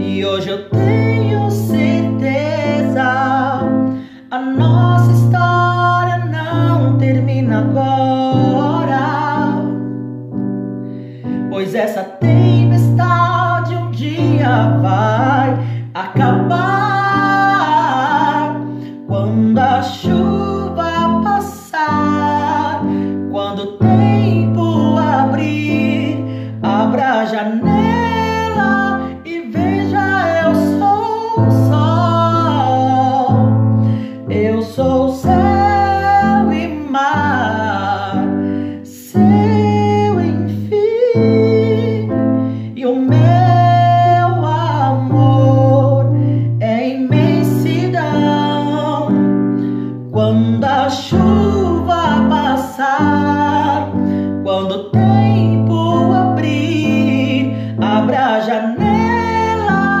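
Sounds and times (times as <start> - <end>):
man singing pop ballad: 0.0 - 10.0, 11.1 - 60.0.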